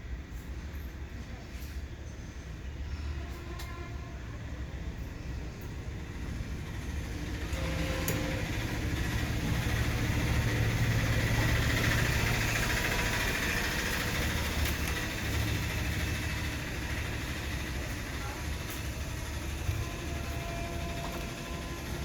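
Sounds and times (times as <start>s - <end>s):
engine running with hum and hiss: 0.0s - 22.0s.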